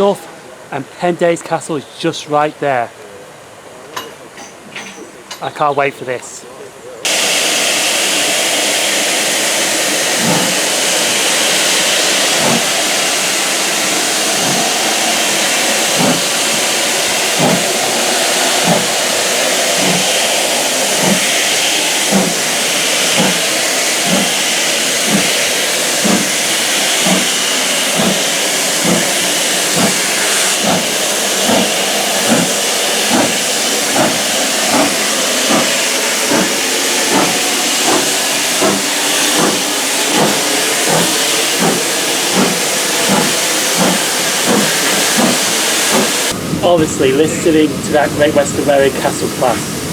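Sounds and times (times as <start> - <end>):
steam locomotive exhaust beats: 0.0 - 1.6, 7.0 - 49.9
steam hissing: 0.0 - 2.3, 7.0 - 49.9.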